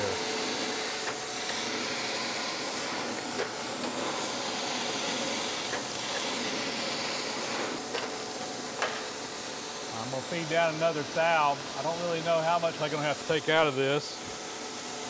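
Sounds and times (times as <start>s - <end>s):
grinding wheel hissing: 0.0s - 14.9s.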